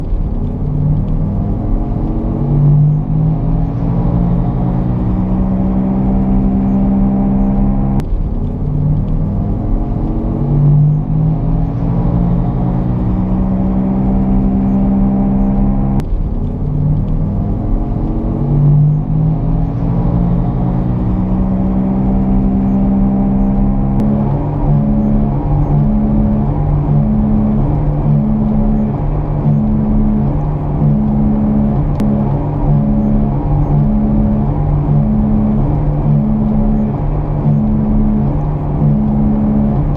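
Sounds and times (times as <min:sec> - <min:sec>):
car driving: 0:00.0 - 0:39.9
pitched hum: 0:00.0 - 0:39.9.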